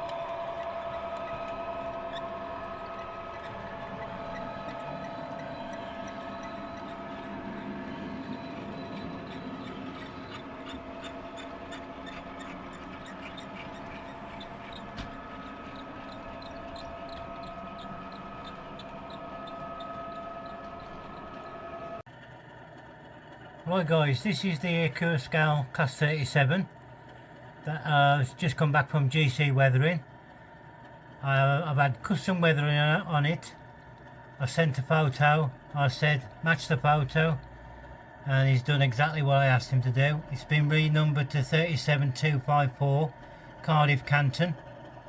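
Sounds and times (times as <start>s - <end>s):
model train motor whine: 0.0s - 45.0s.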